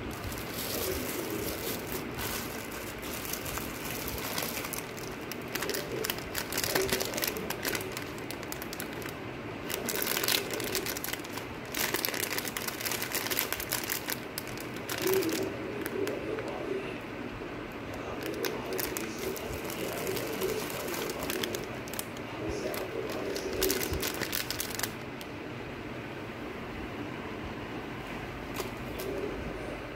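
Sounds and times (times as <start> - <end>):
packaging crinkling: 0.0 - 16.6, 17.9 - 25.3, 28.5 - 29.2.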